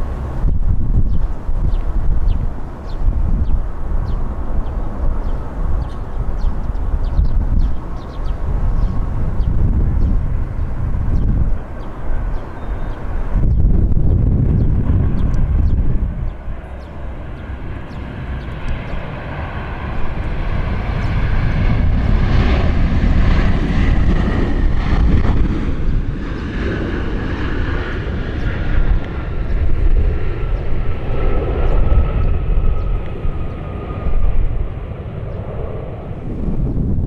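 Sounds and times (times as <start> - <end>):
jet engines rumbling and whining: 0.0 - 37.0
wind buffeting microphone: 0.0 - 37.0.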